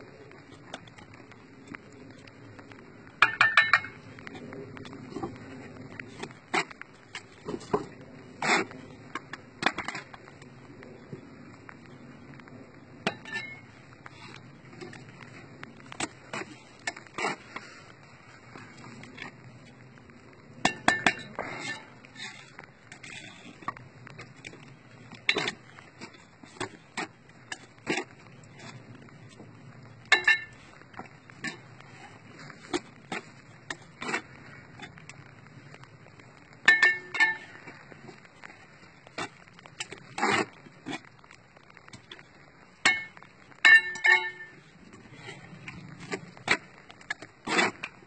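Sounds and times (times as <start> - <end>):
mortar scraping: 3.2 - 10.2, 13.0 - 19.8, 20.7 - 29.2, 30.1 - 35.9, 36.6 - 48.0.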